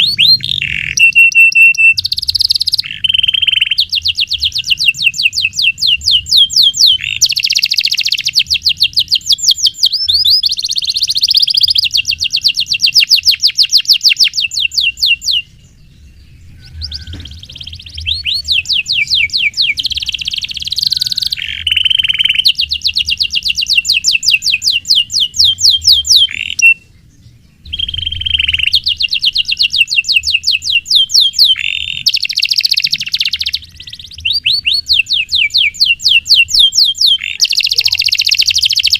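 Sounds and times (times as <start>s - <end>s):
canary singing rolling trills: 0.0s - 38.9s.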